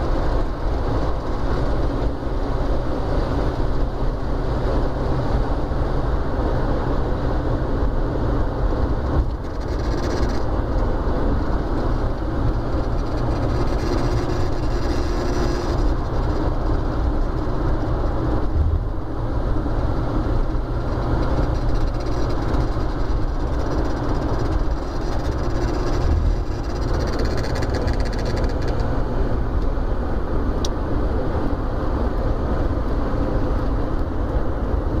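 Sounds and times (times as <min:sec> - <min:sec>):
car engine gearbox and road noise: 0:00.0 - 0:35.0.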